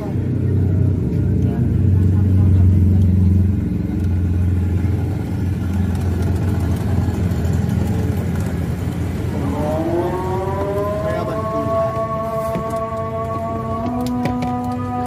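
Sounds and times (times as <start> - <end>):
low rumble of road traffic: 0.0 - 15.0
sustained pitched tone: 0.0 - 15.0.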